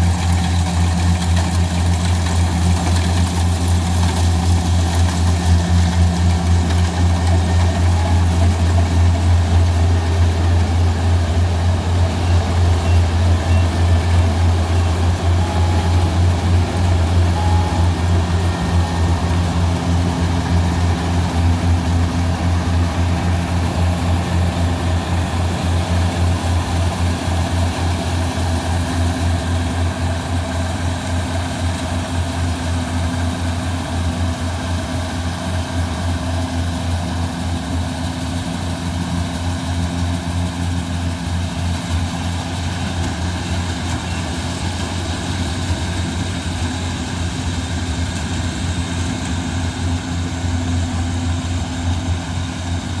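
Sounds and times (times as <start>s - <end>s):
harvester engine droning: 0.0s - 53.0s.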